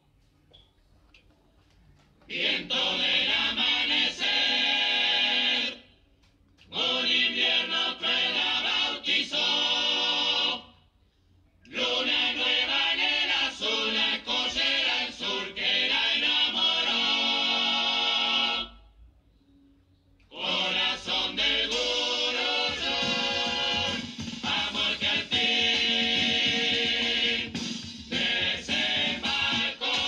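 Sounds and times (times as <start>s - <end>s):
choir singing in recorded music: 2.3s - 6.0s, 6.6s - 11.0s, 11.6s - 19.1s, 20.2s - 30.0s.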